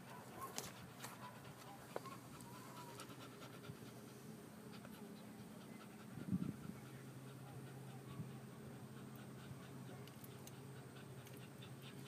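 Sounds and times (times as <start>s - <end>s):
dog breathing heavily: 0.0s - 12.0s
steady low hum: 0.0s - 12.0s.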